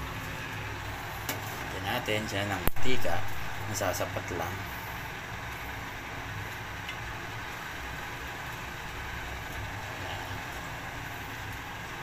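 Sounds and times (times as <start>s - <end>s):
gas burner rumbling with hiss: 0.0s - 12.0s.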